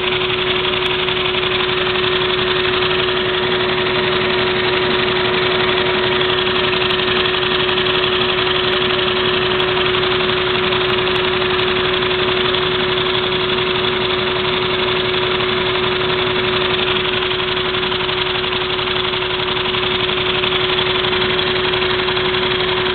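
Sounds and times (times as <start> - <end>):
toy engine clattering rapidly: 0.0 - 22.9
vacuum cleaner running: 0.0 - 22.9.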